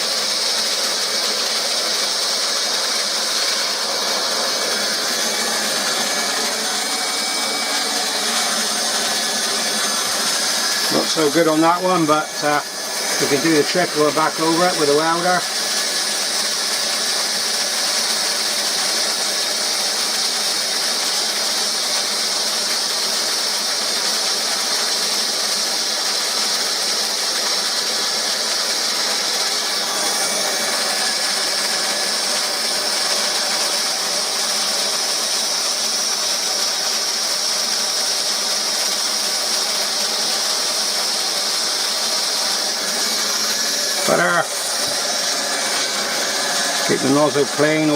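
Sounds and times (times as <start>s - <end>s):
hot air gun hissing: 0.0s - 47.9s.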